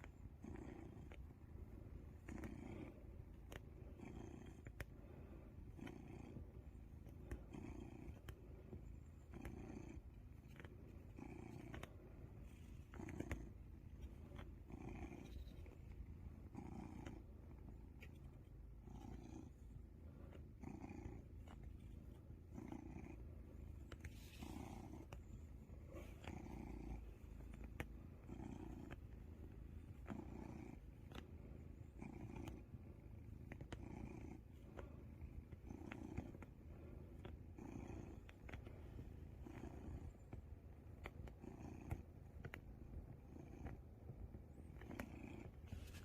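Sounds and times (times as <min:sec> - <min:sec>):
cat purring: 0:00.0 - 0:46.0.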